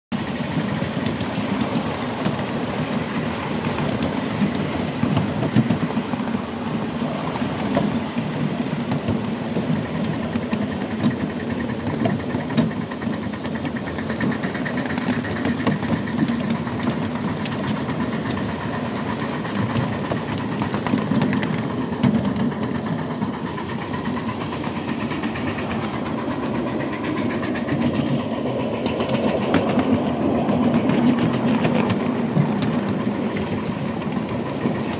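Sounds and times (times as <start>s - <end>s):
miniature train rumble: 0.1s - 34.9s
wheels clattering on rail: 0.2s - 34.9s.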